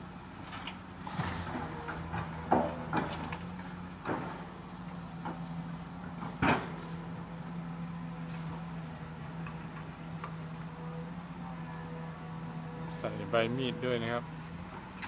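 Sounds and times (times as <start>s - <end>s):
excavator diesel engine humming: 0.0s - 15.0s.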